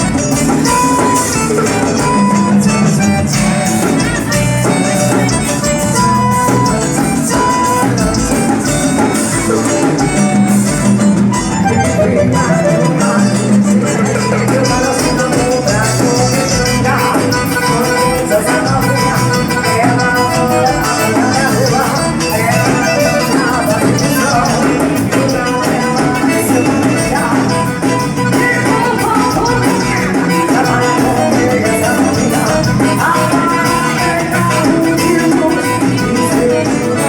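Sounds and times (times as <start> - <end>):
band playing latin dance music: 0.0 - 37.0.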